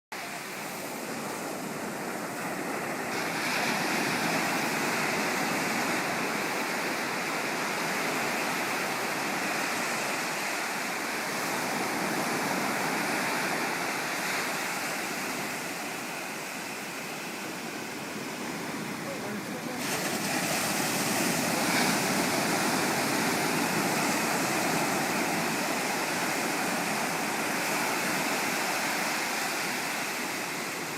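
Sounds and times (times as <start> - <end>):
waves breaking on beach: 0.1 - 30.9.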